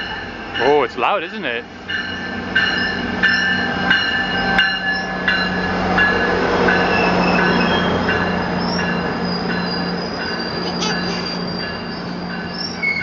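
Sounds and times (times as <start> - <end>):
train drone: 0.0 - 13.0
train wheel squeal: 2.0 - 13.0.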